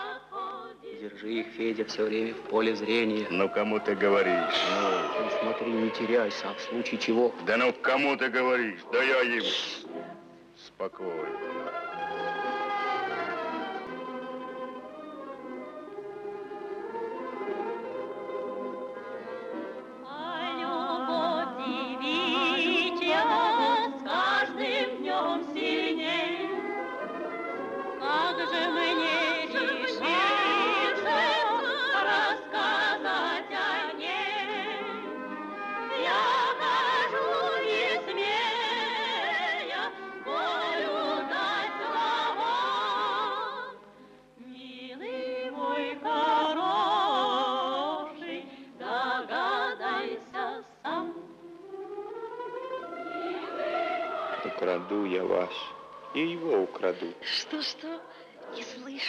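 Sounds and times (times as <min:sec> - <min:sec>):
women's choir singing: 0:00.0 - 0:01.5, 0:02.2 - 0:07.2, 0:16.8 - 0:43.8, 0:44.4 - 0:59.0.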